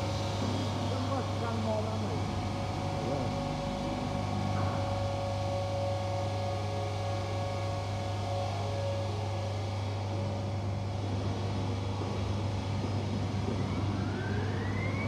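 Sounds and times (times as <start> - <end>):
machine hum: 0.0 - 15.0
motor whine: 0.0 - 15.0.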